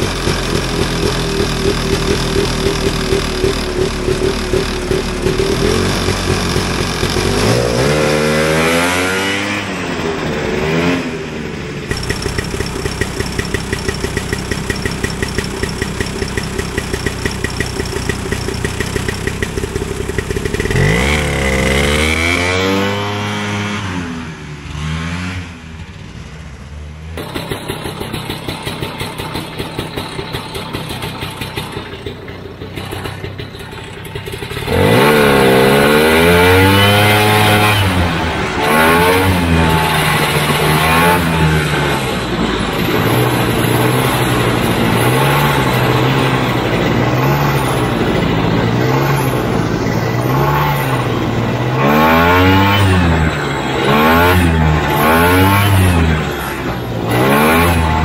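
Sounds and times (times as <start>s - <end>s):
snowmobile two-stroke engine revving: 0.0s - 58.0s.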